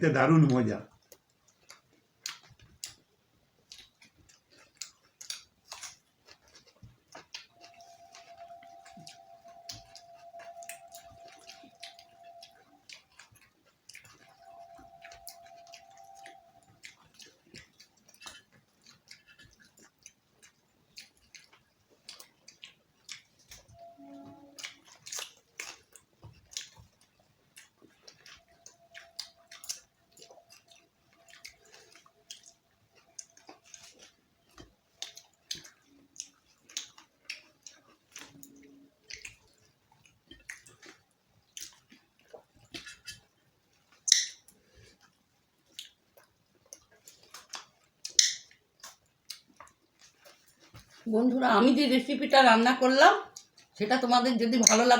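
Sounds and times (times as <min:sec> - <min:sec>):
mouth clicks and smacks chewing: 0:00.5 - 0:51.1, 0:53.2 - 0:53.8, 0:54.4 - 0:54.9.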